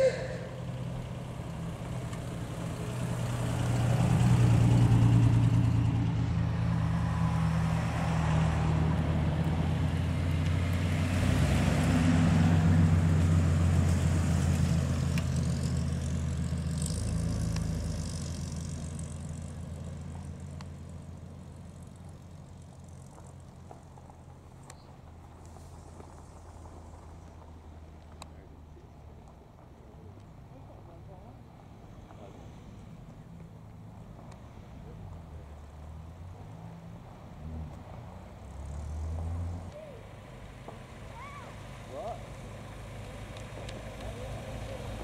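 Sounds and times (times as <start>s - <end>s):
sports cars passing slowly: 0.0s - 45.0s.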